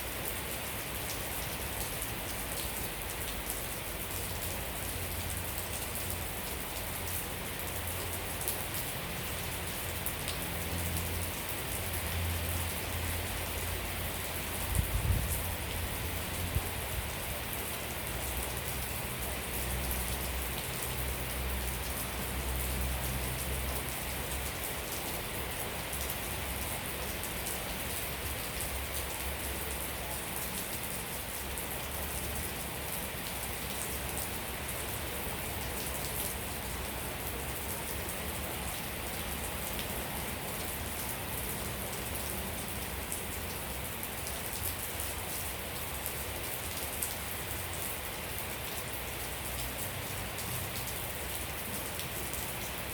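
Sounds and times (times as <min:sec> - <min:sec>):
rain falling on surfaces: 0:00.0 - 0:52.9.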